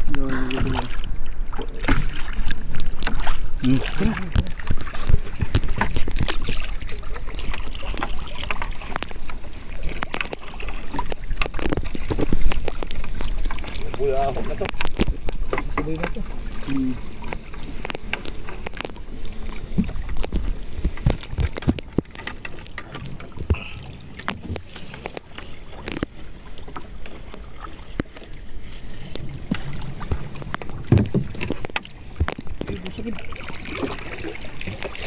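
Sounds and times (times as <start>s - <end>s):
water lapping against boat hull: 0.0s - 35.0s.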